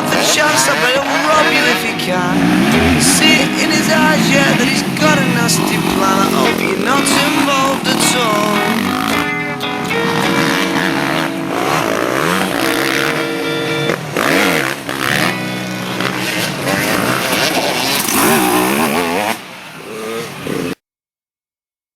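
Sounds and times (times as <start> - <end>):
rock music with guitar: 0.0 - 18.2
dirt bike engines revving: 0.0 - 20.8.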